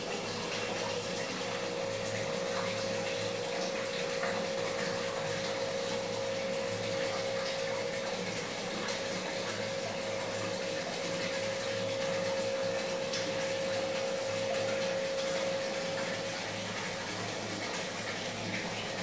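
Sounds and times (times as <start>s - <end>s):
aquarium pump hum: 0.0s - 19.0s
trickling water: 0.0s - 19.0s.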